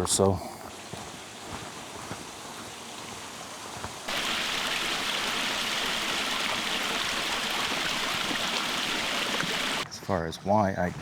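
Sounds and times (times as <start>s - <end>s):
mountain stream rushing: 0.7s - 9.8s.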